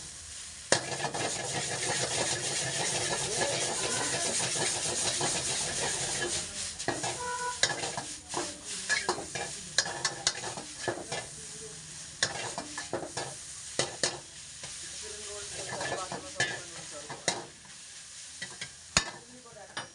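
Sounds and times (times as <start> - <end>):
noodles sizzling in a wok: 0.0 - 19.9
ladle scraping wok: 0.7 - 19.2.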